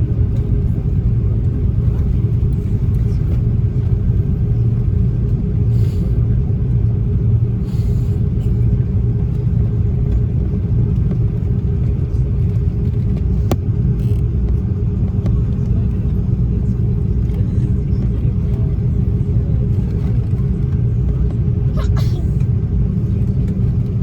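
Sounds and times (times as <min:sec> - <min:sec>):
aircraft engines idling: 0:00.0 - 0:24.0
steady cabin hum: 0:00.0 - 0:24.0.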